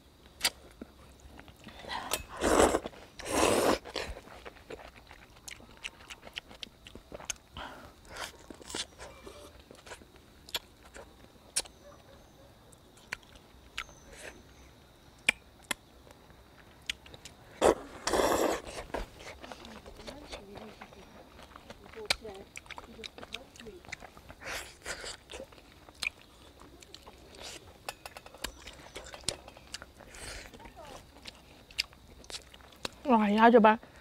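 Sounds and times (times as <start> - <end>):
chewing: 0.4 - 12.2, 12.8 - 14.4, 16.6 - 33.1.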